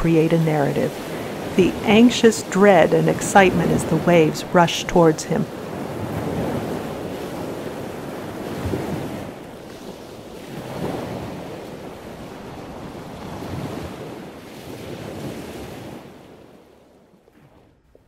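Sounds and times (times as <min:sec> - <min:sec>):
ocean waves washing in: 0:00.0 - 0:18.0.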